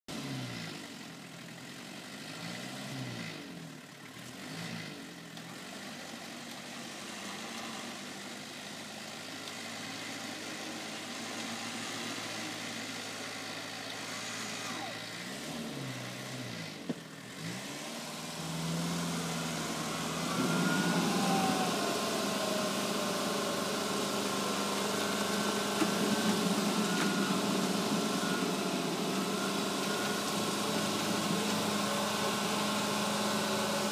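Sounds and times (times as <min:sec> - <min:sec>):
off-road vehicle engine revving: 0:00.1 - 0:33.9.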